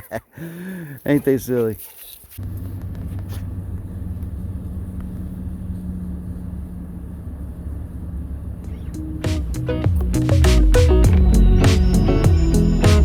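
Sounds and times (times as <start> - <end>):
road noise: 2.2 - 13.0
car engine drone: 2.4 - 13.0.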